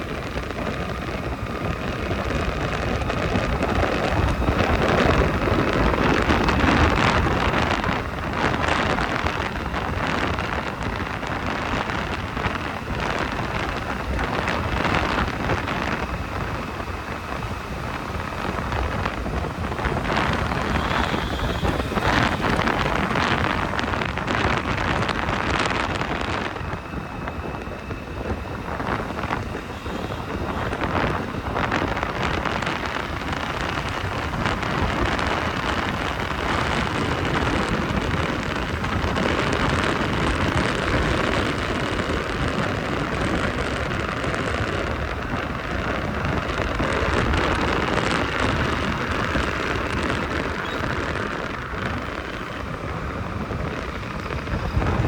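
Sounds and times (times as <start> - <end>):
road and traffic noise: 0.0 - 55.0
wind rushing over microphone: 0.0 - 55.0.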